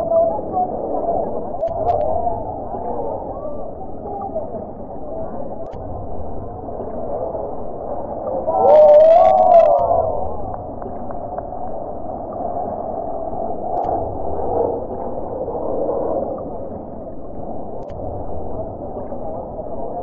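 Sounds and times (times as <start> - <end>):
distant jet engines rumbling: 0.0 - 20.0.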